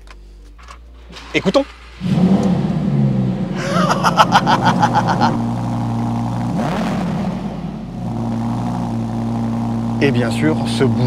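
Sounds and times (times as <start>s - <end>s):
car engine starting and idling: 0.0s - 11.0s
engine revving: 1.1s - 11.0s.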